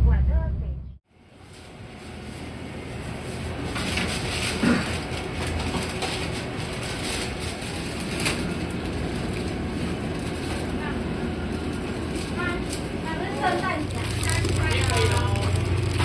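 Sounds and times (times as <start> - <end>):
train rumbling and rattling: 0.0 - 16.0.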